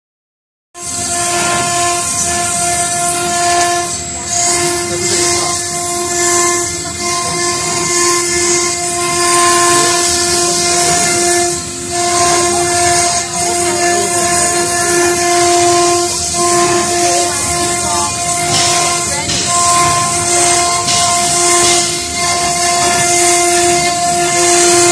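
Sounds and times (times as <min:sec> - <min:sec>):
router spindle whine: 0:00.8 - 0:24.9.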